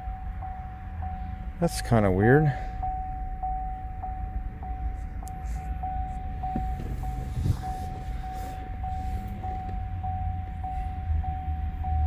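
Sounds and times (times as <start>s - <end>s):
high electronic warning tone: 0.0s - 12.0s
low background rumble: 0.0s - 12.0s.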